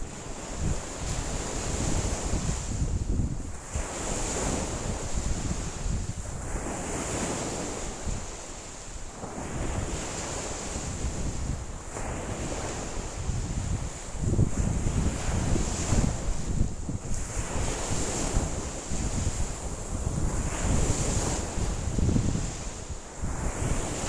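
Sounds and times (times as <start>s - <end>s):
wind buffeting microphone: 0.0s - 8.6s, 9.2s - 24.0s
waves breaking on shore: 0.0s - 24.0s.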